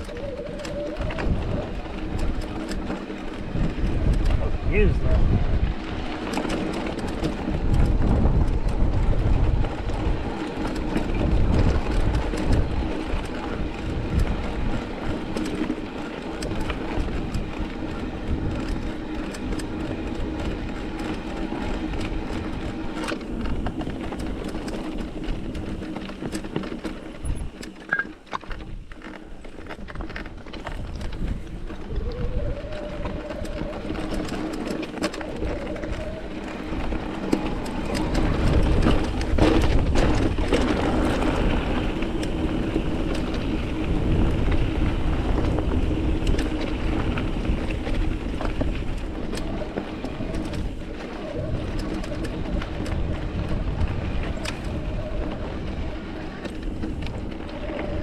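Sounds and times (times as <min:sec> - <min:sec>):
bike rattling and clattering: 0:00.0 - 0:58.0
bike tyres rumbling over rock: 0:00.0 - 0:58.0.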